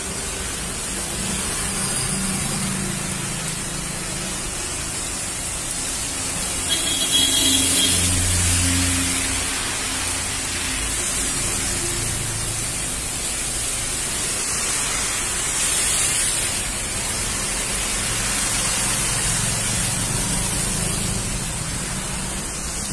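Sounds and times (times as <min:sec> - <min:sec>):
heavy rain hissing: 0:00.0 - 0:22.9
tyres on wet road: 0:00.0 - 0:22.9.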